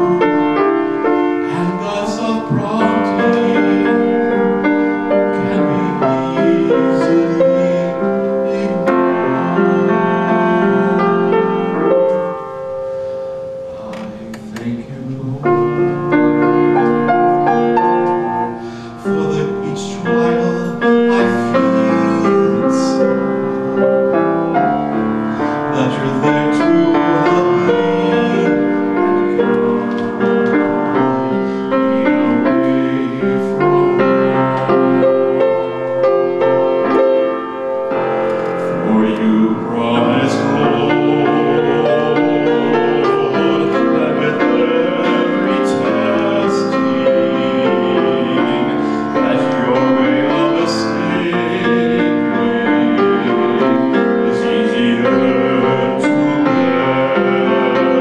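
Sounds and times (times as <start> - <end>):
grand piano: 0.0 - 58.0
man singing: 1.4 - 10.0, 13.7 - 23.4, 25.5 - 30.7, 31.8 - 37.1, 38.6 - 58.0.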